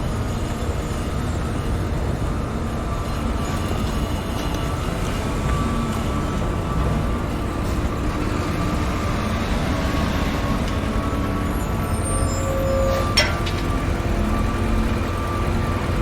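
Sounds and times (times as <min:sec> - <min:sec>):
heavy engines rumbling: 0:00.0 - 0:16.0.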